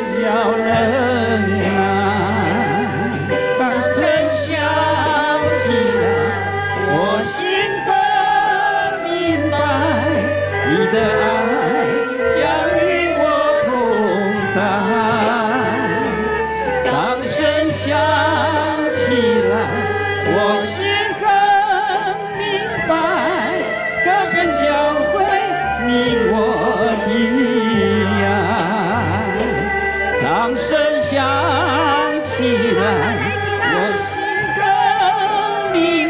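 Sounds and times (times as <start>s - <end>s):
erhu ensemble melody: 0.0s - 36.0s
steady bass line: 0.0s - 36.0s.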